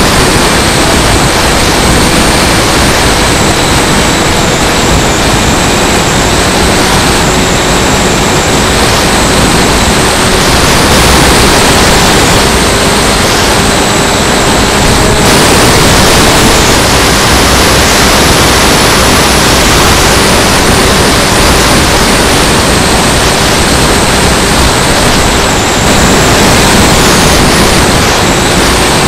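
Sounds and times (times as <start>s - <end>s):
electric motor whine: 0.0s - 29.0s
wind rushing over camera: 0.0s - 29.0s.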